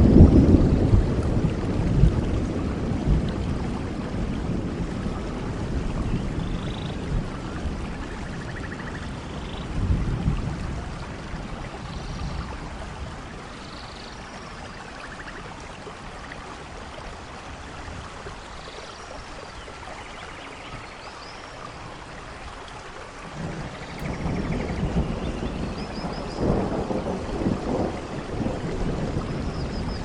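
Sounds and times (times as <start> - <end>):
low rumble of thunder: 0.0 - 18.5, 23.2 - 30.0
steady rain falling: 0.0 - 30.0.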